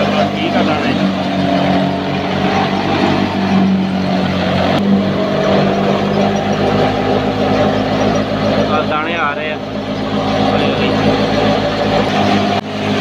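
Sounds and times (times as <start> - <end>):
thresher machine drone: 0.0 - 13.0.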